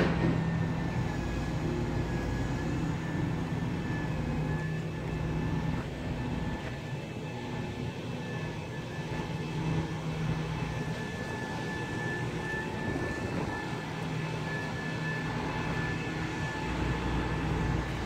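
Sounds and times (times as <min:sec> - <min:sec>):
diesel engine under load: 0:00.0 - 0:18.0
steady high whine: 0:00.0 - 0:18.0.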